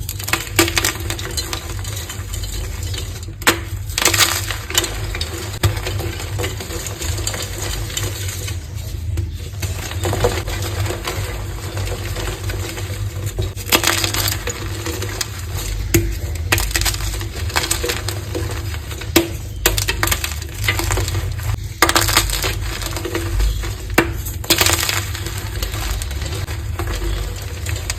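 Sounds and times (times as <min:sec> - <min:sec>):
chalk balls crunching: 0:00.0 - 0:27.9.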